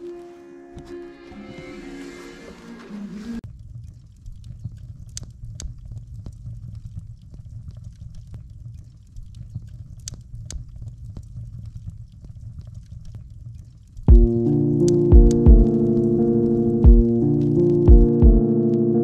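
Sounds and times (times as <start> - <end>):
fire crackles and pops: 3.4 - 19.0.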